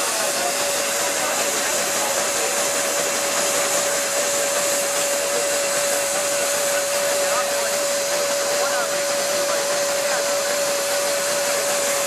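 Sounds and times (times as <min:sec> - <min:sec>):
high hum of spinning dynamo: 0:00.0 - 0:12.0
steam engine whirring: 0:00.0 - 0:12.0.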